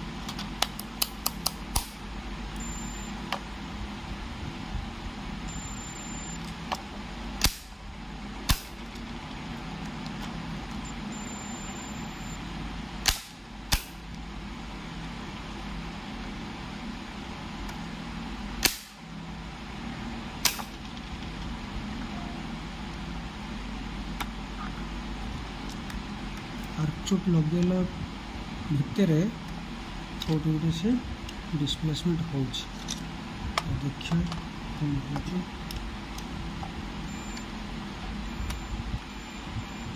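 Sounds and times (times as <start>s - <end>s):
steady background hum: 0.0s - 39.9s.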